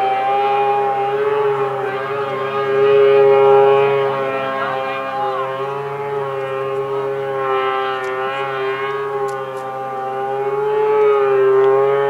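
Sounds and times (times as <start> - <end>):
distant snowmobile engines whining: 0.0 - 12.0.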